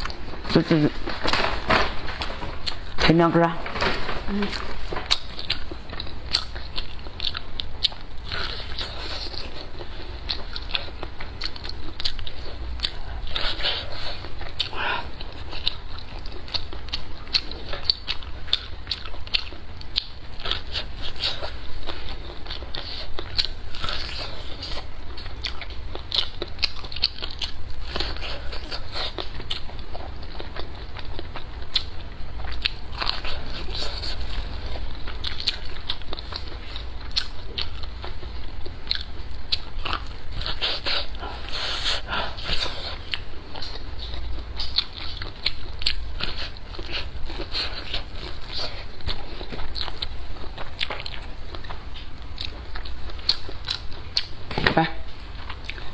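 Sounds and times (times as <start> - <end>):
chewing corn on the cob: 0.0 - 3.1, 3.8 - 54.5, 55.1 - 55.9.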